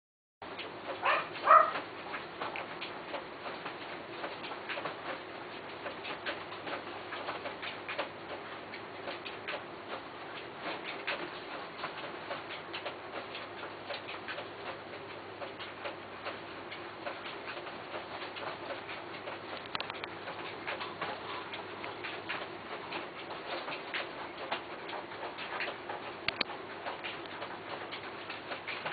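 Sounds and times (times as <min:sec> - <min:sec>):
light clicks and taps: 0:00.6 - 0:28.9.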